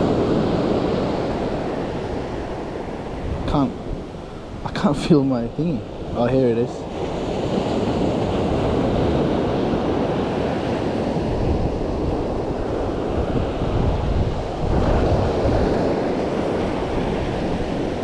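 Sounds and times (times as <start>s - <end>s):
sea rushing: 0.0s - 18.0s
wind: 0.0s - 18.0s
wind buffeting microphone: 0.0s - 18.0s.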